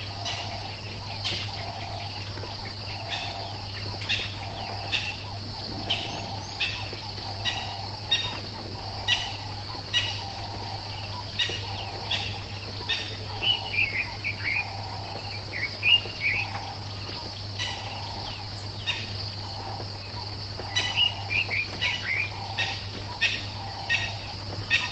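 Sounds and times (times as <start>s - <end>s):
insects trilling: 0.0s - 24.9s
low steady hum: 0.0s - 24.9s
warbling bird song: 0.0s - 24.9s.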